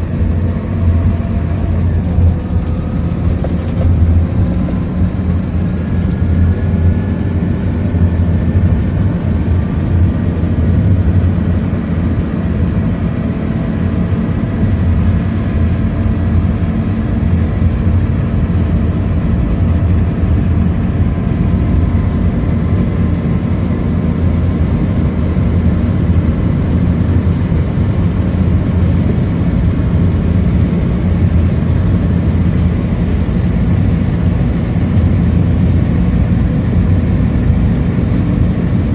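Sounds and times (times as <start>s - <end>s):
bus engine deep rumble: 0.0s - 38.9s
faint drivetrain whines: 0.0s - 38.9s
road and tyre noise: 0.0s - 38.9s.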